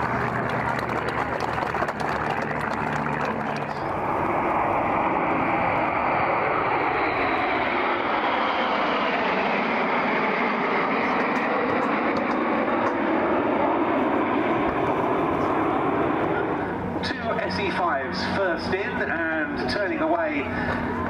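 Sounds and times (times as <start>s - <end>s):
jets roaring past: 0.0s - 21.0s.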